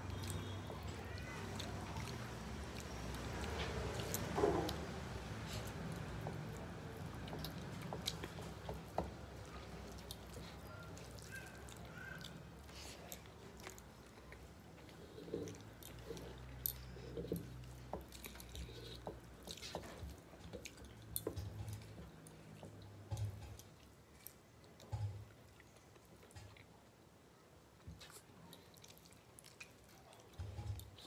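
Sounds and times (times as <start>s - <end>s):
close chewing: 0.0s - 27.1s, 27.7s - 31.0s
faint low hum: 0.0s - 31.0s.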